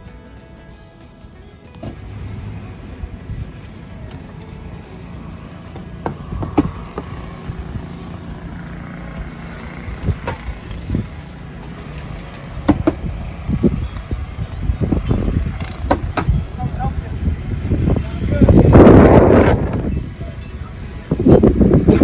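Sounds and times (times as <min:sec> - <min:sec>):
wind buffeting microphone: 0:01.9 - 0:22.0.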